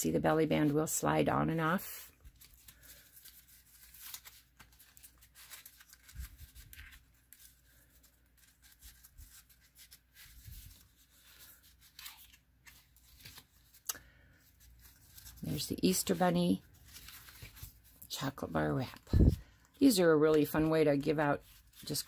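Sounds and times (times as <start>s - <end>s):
cardstock rustling and scraping: 2.2s - 22.0s.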